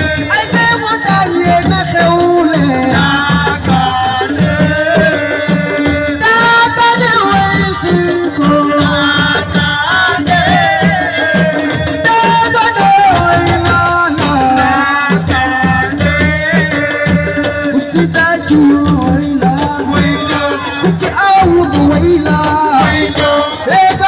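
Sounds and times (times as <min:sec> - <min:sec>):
driving percussion: 0:00.0 - 0:24.0.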